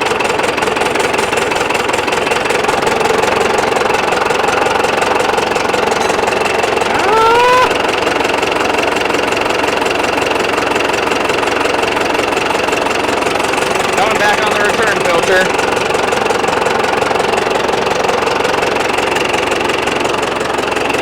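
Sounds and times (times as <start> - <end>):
diesel tractor engine knocking: 0.0 - 21.0.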